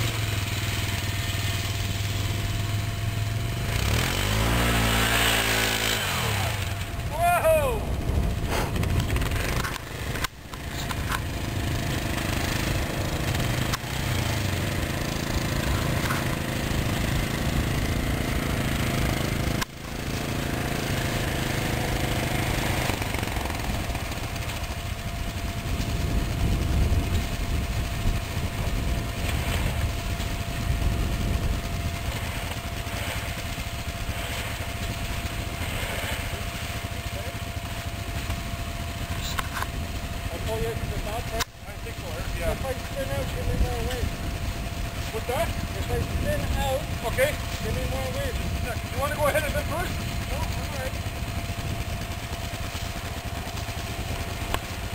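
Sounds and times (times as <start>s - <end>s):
atv engines running: 0.0s - 54.9s.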